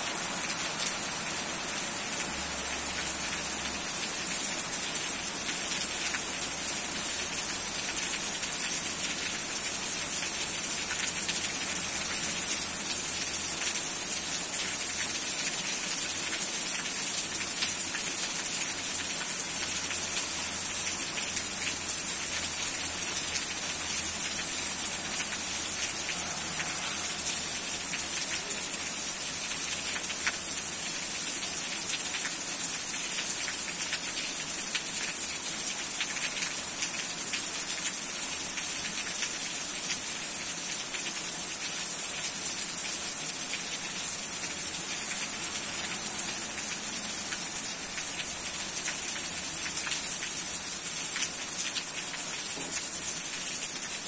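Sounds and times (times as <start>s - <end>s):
heavy rain on leafy trees: 0.0s - 54.0s.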